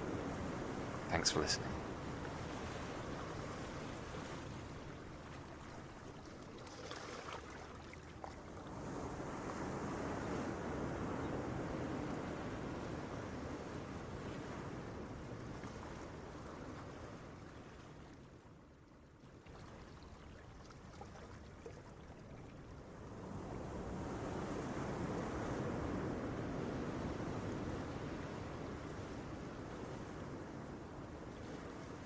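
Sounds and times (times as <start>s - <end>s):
ocean waves breaking on beach: 0.0s - 18.6s, 19.5s - 32.0s.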